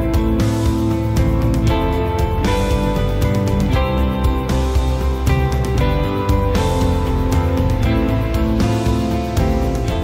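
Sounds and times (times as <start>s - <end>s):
guitar music with steady beat: 0.0s - 10.0s.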